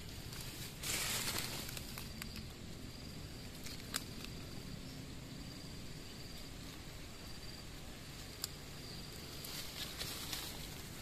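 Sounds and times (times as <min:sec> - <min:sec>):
insect high trill: 0:00.0 - 0:11.0.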